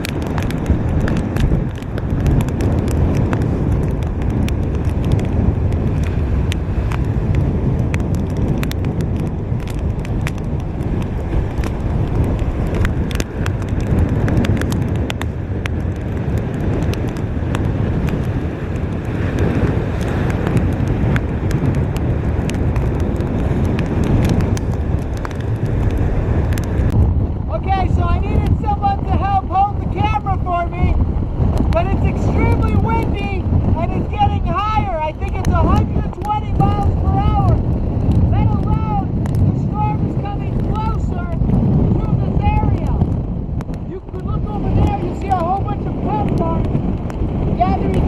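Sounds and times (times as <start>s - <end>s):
small sharp crackles: 0.0s - 27.1s, 28.2s - 48.0s
wind buffeting microphone: 0.0s - 48.0s.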